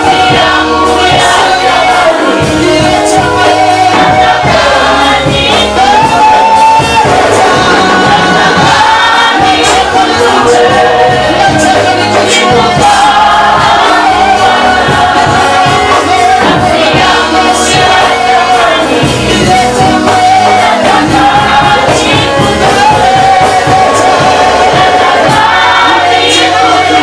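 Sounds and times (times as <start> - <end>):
congregation singing gospel song: 0.0 - 27.0
instrumental backing with steady beat: 0.0 - 27.0.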